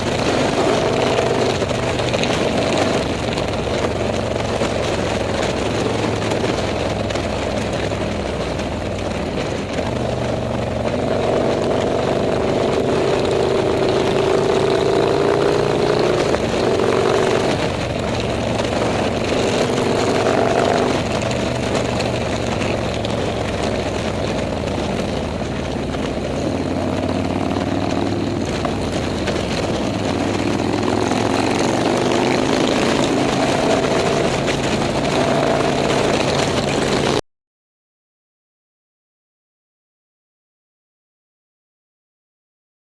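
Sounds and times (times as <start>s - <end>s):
motorcycle engines running: 0.0s - 37.2s.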